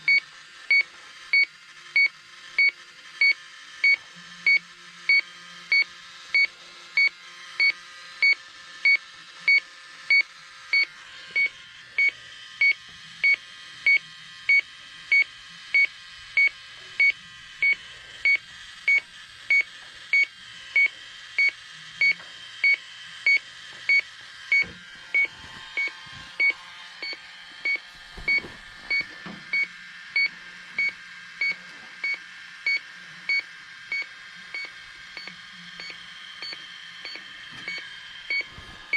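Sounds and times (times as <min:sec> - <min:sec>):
leak detector beeping: 0:00.1 - 0:38.9.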